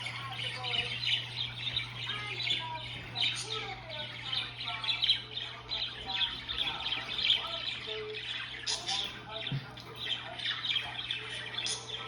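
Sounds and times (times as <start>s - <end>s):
budgerigar chirping and warbling: 0.0s - 12.0s
steady low hum: 0.0s - 12.0s.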